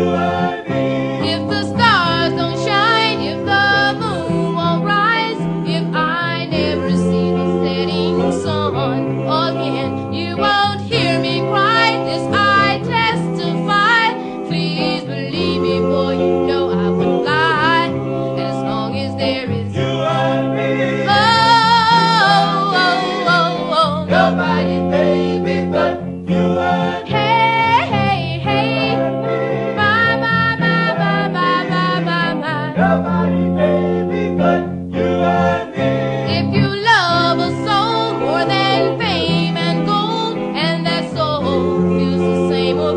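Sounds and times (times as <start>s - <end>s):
song with singing voice: 0.0s - 42.9s.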